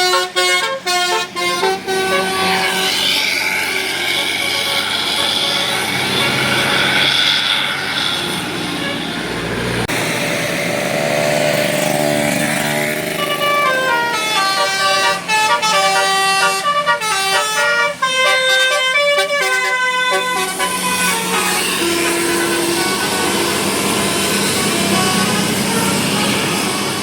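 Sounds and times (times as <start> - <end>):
bus horn playing a tune: 0.0 - 9.6, 12.8 - 27.0
bus passing: 0.0 - 27.0.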